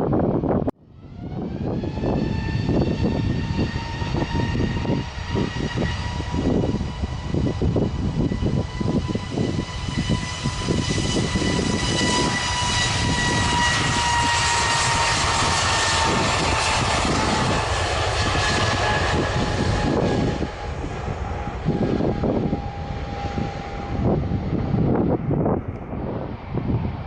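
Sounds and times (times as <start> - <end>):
jet engines passing by: 0.0 - 27.0.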